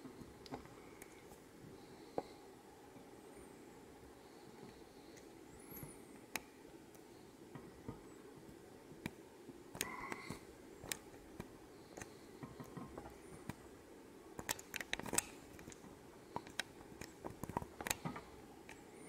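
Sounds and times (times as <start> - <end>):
faint clicks and taps: 0.1 - 2.4, 4.6 - 13.7, 14.4 - 18.9.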